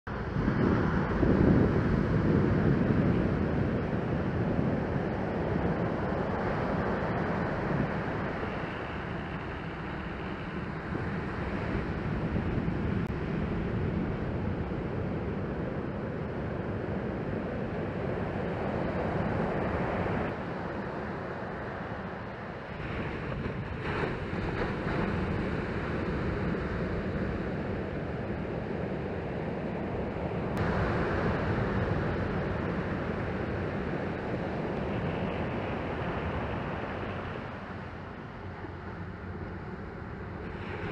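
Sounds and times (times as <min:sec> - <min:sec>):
wind buffeting microphone: 0:00.1 - 0:40.9
ocean surf washing up: 0:00.2 - 0:40.9.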